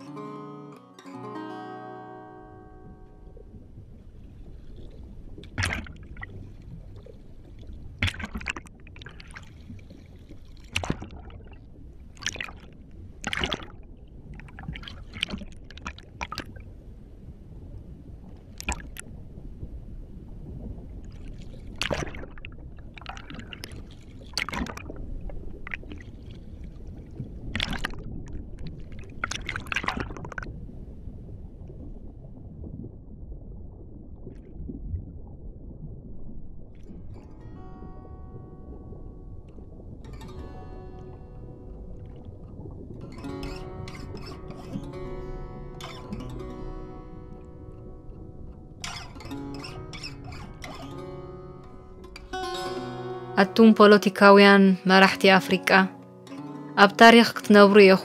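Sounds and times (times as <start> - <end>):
low underwater rumble: 2.3 - 53.4.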